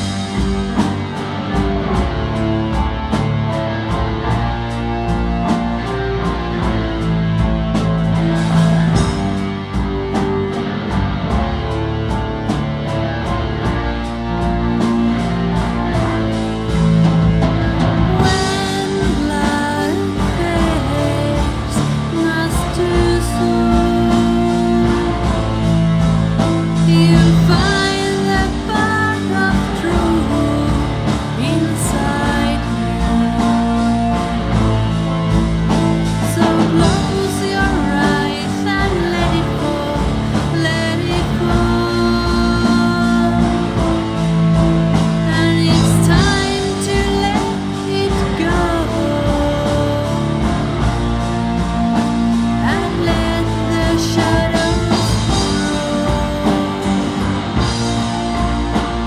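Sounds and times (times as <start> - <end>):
rock band with singing: 0.0 - 59.0.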